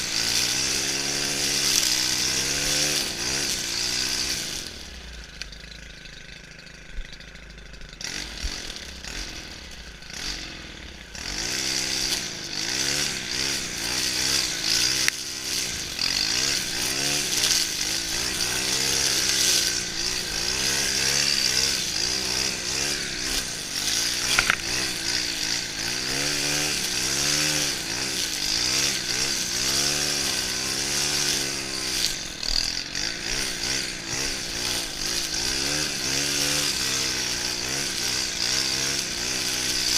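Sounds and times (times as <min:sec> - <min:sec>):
brushcutter engine trimming grass: 0:00.0 - 0:39.9.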